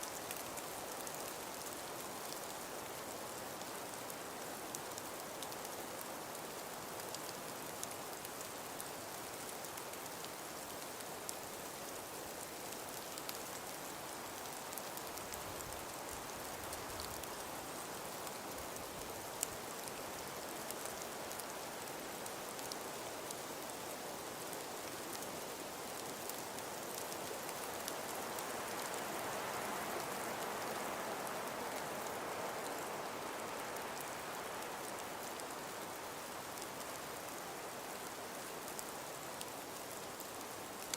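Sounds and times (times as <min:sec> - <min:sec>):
wind and falling snow hiss: 0:00.0 - 0:40.9
faint ticks: 0:04.7 - 0:11.7, 0:12.5 - 0:23.9, 0:24.5 - 0:40.9.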